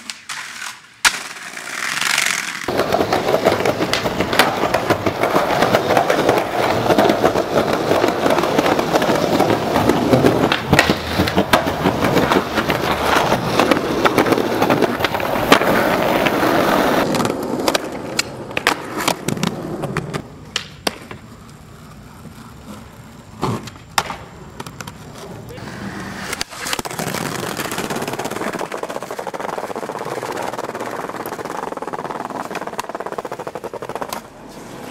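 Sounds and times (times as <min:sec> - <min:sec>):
skateboard clacking on ground: 0:00.0 - 0:34.9
skateboard wheels rolling on concrete: 0:00.0 - 0:34.9.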